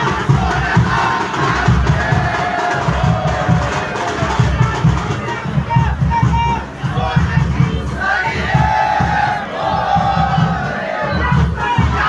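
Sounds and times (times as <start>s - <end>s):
crowd chanting and shouting: 0.0s - 12.0s
steady low drum beat: 0.0s - 12.0s.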